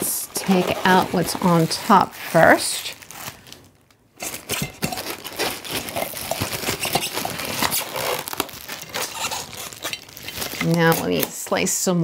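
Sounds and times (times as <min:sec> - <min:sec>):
plastic wrapping crinkling: 0:00.2 - 0:11.6.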